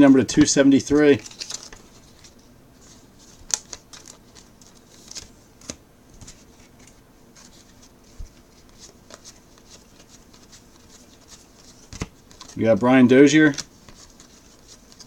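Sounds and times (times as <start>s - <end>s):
cards rustling and clicking: 0.4s - 15.0s.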